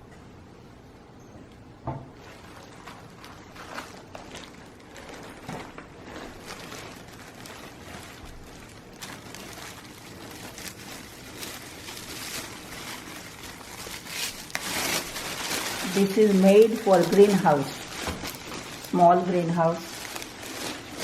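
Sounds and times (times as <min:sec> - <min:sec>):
packaging rustling: 0:02.2 - 0:21.0.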